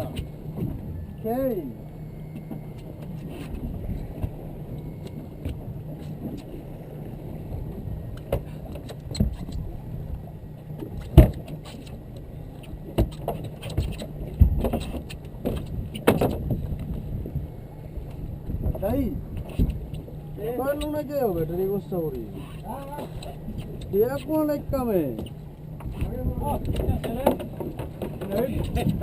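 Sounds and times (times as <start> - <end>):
boat engine running at low revs: 0.0 - 29.0.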